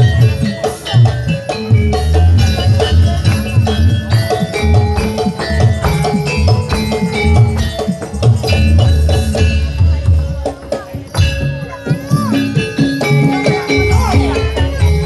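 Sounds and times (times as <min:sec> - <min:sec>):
deep drum beats: 0:00.0 - 0:15.0.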